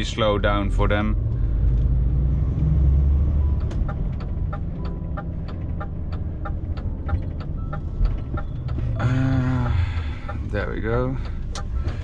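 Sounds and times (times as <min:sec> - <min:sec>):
truck engine running: 0:00.0 - 0:12.0
turn signal ticking: 0:00.0 - 0:12.0.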